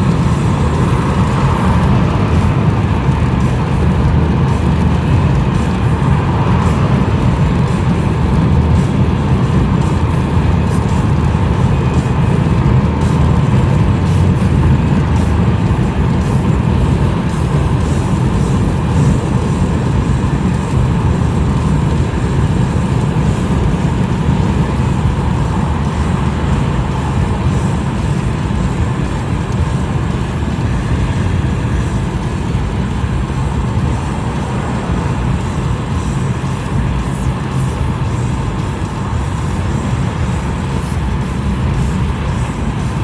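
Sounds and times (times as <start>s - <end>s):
road vehicle rumbling: 0.0s - 43.0s.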